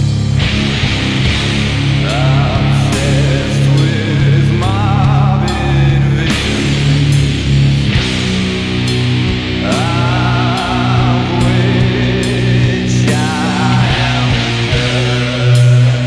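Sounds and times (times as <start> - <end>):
doom metal band playing: 0.0 - 16.0.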